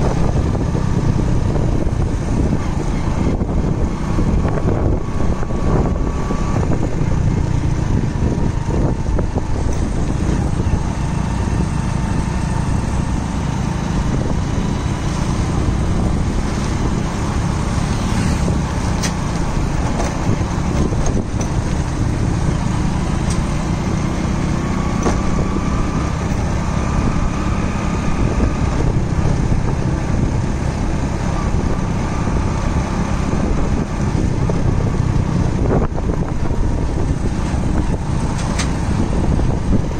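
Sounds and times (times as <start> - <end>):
vehicles driving on road: 0.0 - 39.9.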